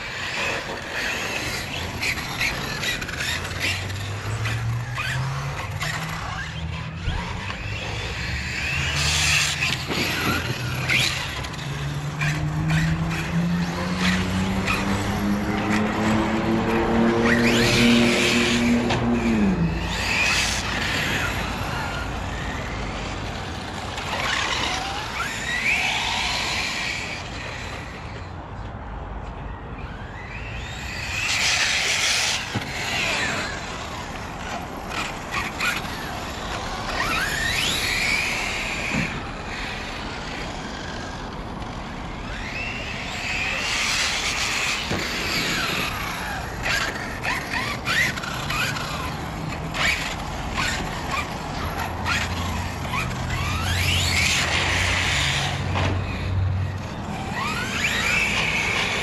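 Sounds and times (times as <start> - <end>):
toy car motors whining: 0.0 - 59.0
tyre noise on asphalt: 0.0 - 59.0.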